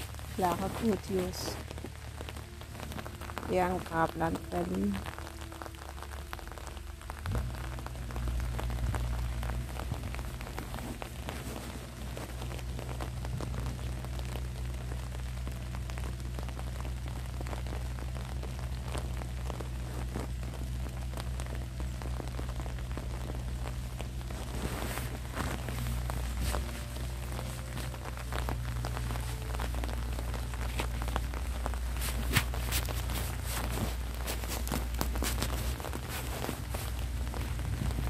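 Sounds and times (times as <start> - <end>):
light rain pattering: 0.0 - 38.0
steady low rumble: 0.0 - 38.0.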